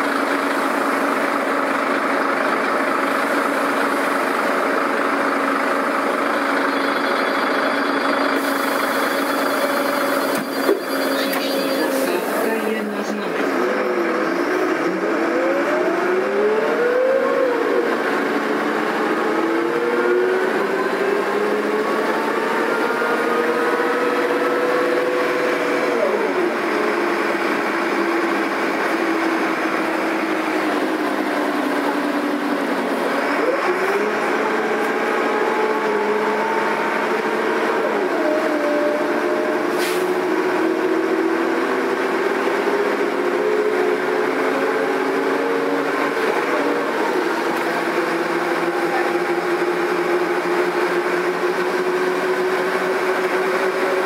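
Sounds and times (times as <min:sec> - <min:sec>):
bus engine running: 0:00.0 - 0:54.0.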